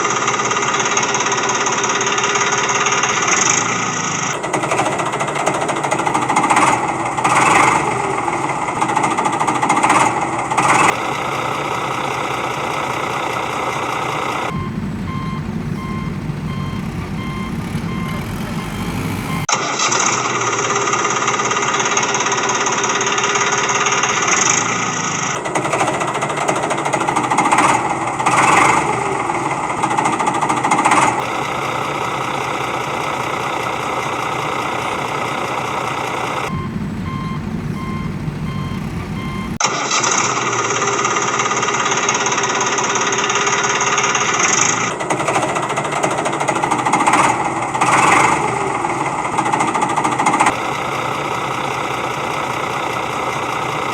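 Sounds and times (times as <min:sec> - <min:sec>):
engine and machinery running: 0:00.0 - 0:53.9.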